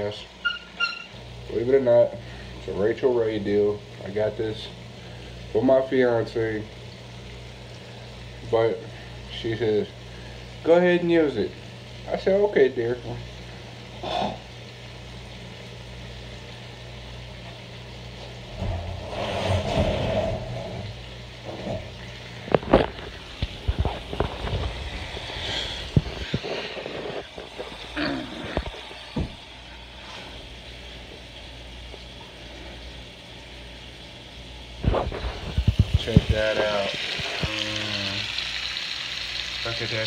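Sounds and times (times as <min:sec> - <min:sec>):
bacon frying in a pan: 0:00.0 - 0:40.0.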